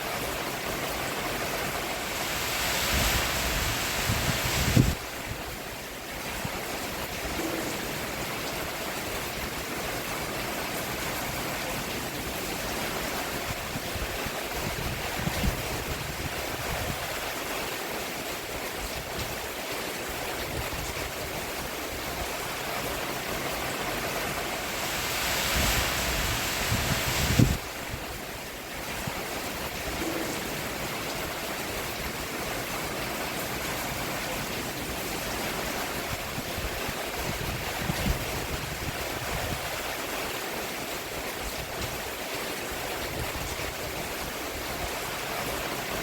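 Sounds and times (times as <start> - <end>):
rain falling on a roof: 0.0 - 46.0.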